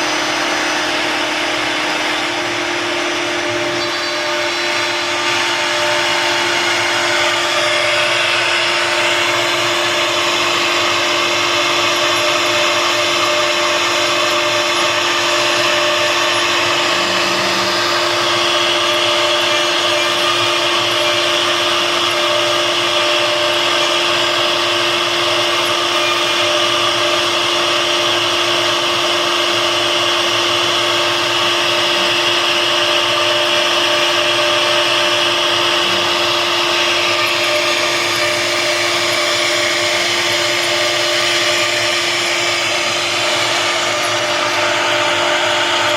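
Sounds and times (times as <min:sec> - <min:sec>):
cnc router spindle whine: 0:00.0 - 0:45.9.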